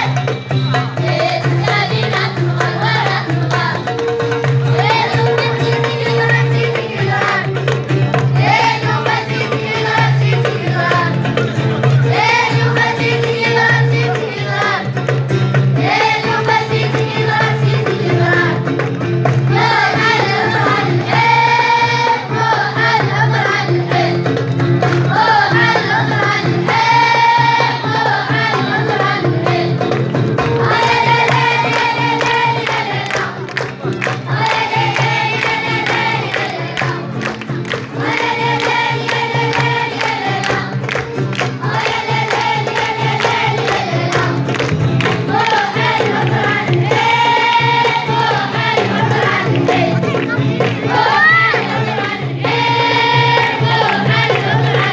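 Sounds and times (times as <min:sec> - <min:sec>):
group singing folk song: 0:00.0 - 0:54.9
musical accompaniment: 0:00.0 - 0:54.9.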